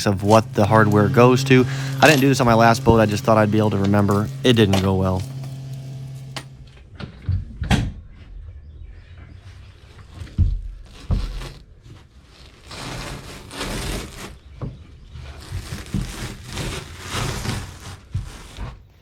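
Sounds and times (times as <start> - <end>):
carpet scraping and tearing: 0.0 - 6.8, 9.3 - 19.0.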